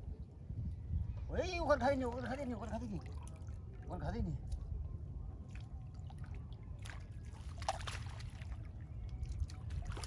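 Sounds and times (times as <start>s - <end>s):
water splashing and trickling: 1.8s - 10.0s.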